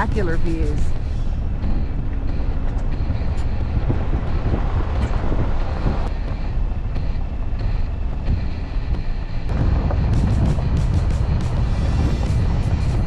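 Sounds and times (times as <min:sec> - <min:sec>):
truck road noise: 0:00.0 - 0:13.0
wind rumble: 0:00.0 - 0:13.0.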